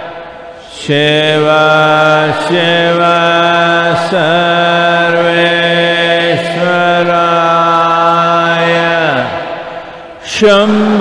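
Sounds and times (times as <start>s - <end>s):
steady low drone: 0.0s - 10.3s
man chanting: 0.5s - 11.0s.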